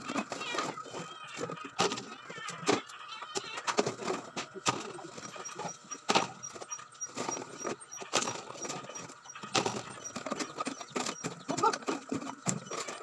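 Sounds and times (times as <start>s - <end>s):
plastic bottles clattering and crinkling: 0.0s - 13.0s.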